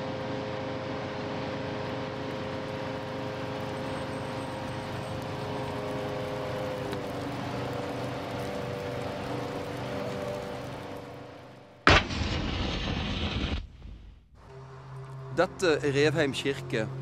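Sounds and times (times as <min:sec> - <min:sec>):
fire engine droning hum: 0:00.0 - 0:11.9, 0:14.4 - 0:17.0.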